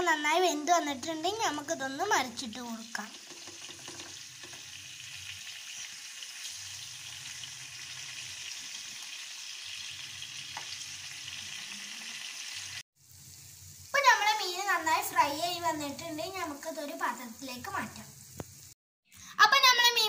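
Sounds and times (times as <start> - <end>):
fish sizzling in hot oil: 0.0 - 18.8.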